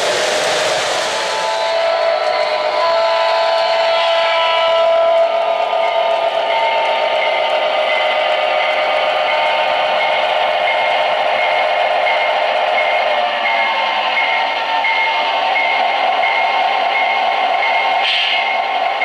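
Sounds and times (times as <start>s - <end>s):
toy train locomotive running: 0.0s - 19.0s.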